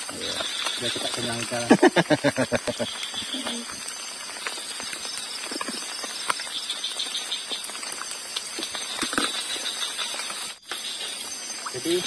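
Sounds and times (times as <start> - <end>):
light rain: 0.0 - 12.0
night insects: 0.0 - 12.0.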